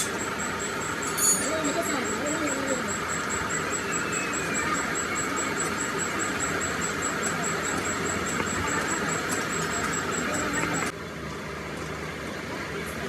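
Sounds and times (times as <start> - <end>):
workshop machinery running: 0.0 - 11.0.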